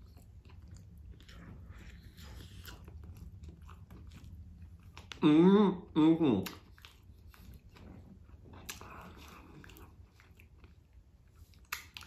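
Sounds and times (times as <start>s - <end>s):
person chewing food: 0.0s - 5.5s, 6.3s - 12.0s.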